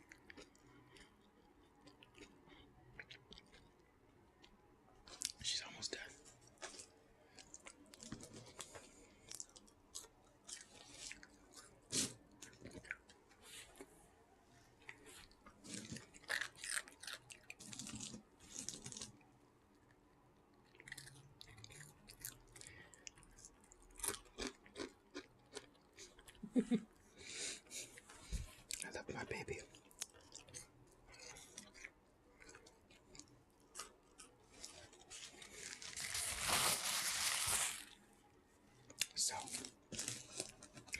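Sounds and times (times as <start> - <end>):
chewing crunchy food: 0.0 - 5.4, 6.4 - 13.9, 14.8 - 26.4, 29.5 - 36.3, 38.8 - 40.9.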